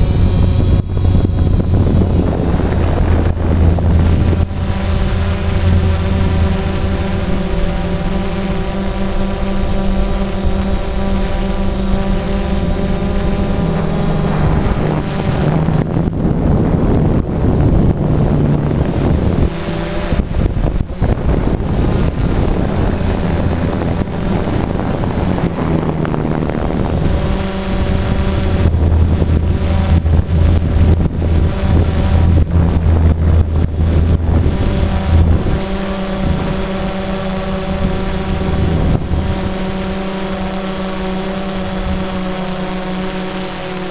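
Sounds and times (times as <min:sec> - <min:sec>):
rushing noise: 0:00.0 - 0:42.2
drone propellers droning: 0:00.0 - 0:43.9.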